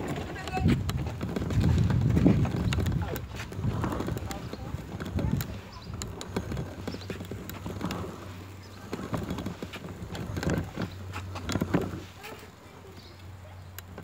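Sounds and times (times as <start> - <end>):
footsteps shuffling: 0.0 - 14.0
walking frame knocking and rattling: 0.0 - 14.0.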